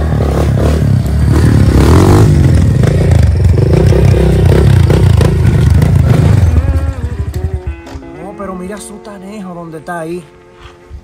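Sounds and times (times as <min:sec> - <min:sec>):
dirt bike engine revving: 0:00.0 - 0:08.9.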